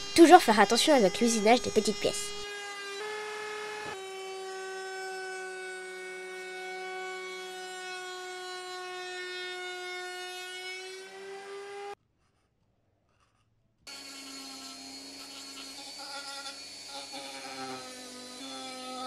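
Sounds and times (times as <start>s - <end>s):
router motor whining: 0.0s - 12.0s, 13.9s - 19.0s
rotary tool grinding wood: 0.0s - 19.0s.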